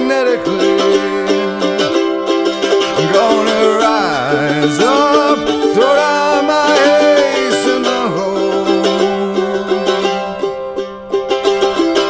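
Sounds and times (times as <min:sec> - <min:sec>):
acoustic song on plucked strings: 0:00.0 - 0:12.0.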